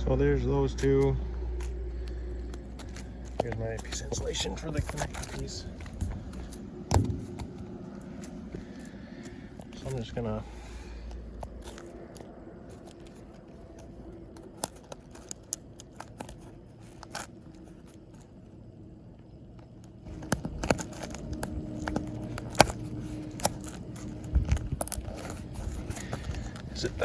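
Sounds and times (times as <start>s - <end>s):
hands handling tubing and fittings: 0.8s - 18.7s, 19.4s - 27.0s.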